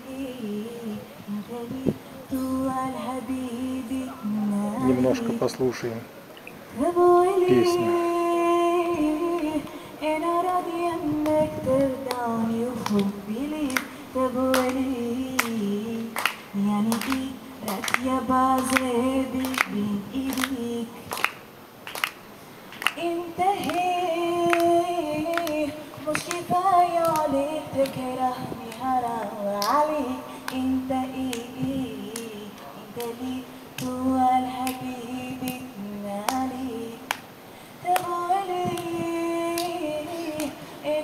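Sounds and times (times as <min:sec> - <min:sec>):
woman singing slow song: 0:00.0 - 0:05.7, 0:06.5 - 0:21.6, 0:22.7 - 0:41.0.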